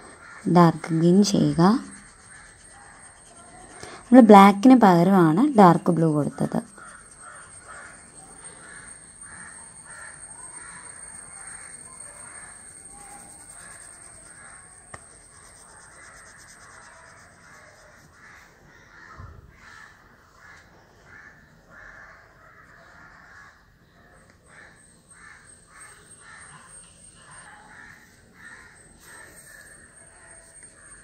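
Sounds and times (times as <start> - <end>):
faint crow caws: 0.0 - 4.1, 6.2 - 31.0.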